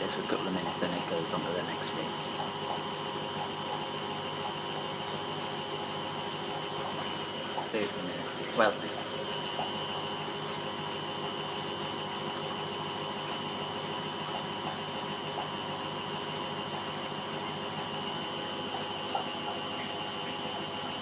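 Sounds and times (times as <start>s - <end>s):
washing machine drum spinning: 0.0s - 21.0s.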